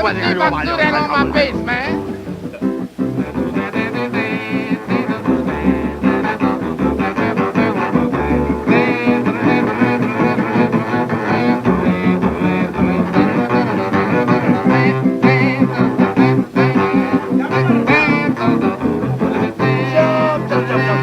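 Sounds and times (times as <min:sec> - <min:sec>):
bowed double bass with vibrato: 0:00.0 - 0:21.0
rhythm guitar: 0:00.0 - 0:21.0.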